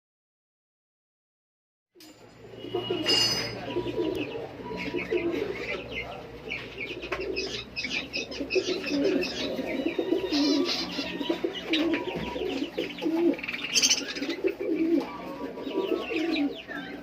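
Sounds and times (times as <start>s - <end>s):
small cage birds chirping: 2.0s - 17.0s
pigeons cooing: 2.4s - 17.0s.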